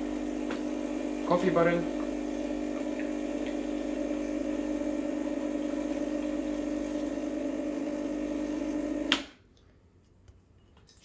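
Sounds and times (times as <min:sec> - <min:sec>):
espresso machine pump humming: 0:00.0 - 0:09.3.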